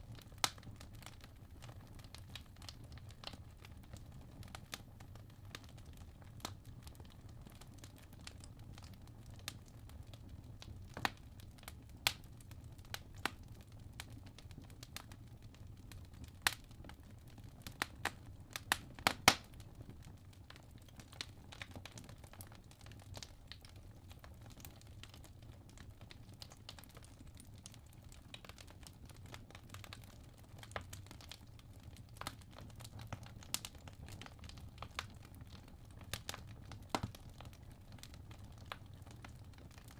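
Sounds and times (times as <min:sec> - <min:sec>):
wood crackling and popping: 0:00.0 - 0:39.9.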